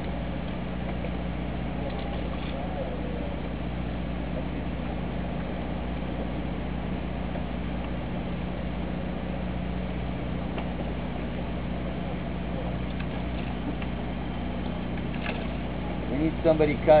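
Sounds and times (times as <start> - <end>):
boat machinery humming: 0.0 - 17.0.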